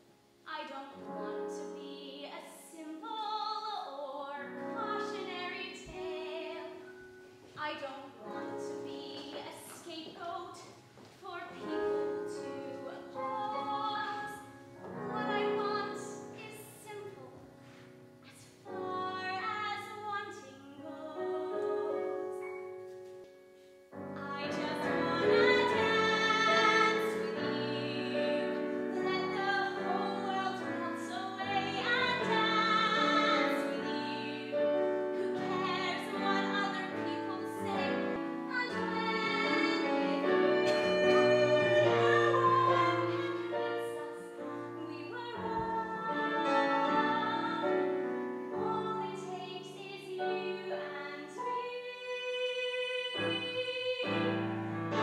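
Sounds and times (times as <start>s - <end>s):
woman singing a ballad: 0.4s - 7.0s, 7.6s - 17.5s, 18.3s - 22.5s, 24.2s - 55.0s
instrumental accompaniment: 4.5s - 51.7s.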